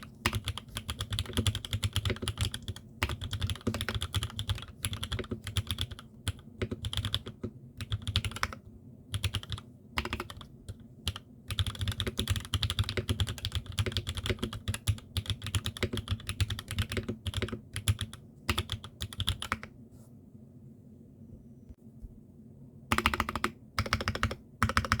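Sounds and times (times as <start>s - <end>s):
mechanical keyboard typing: 0.0s - 19.7s, 22.9s - 25.0s.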